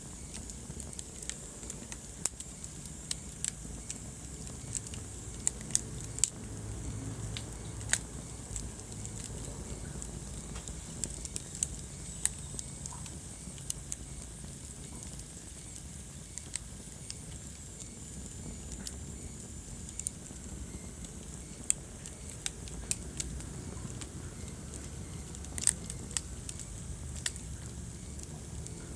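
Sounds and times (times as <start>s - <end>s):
fire crackling and popping: 0.0s - 28.9s
low rumble of flames: 0.0s - 28.9s.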